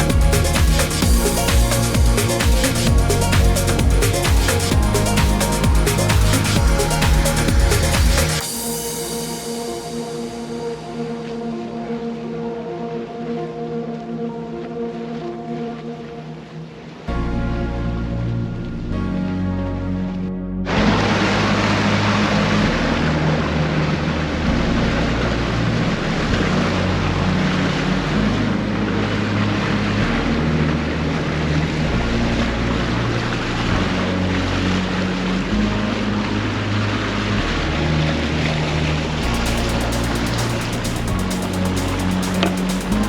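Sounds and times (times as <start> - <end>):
rush of wind and water: 0.0 - 18.6, 20.7 - 43.0
speedboat engine drone: 0.0 - 43.0.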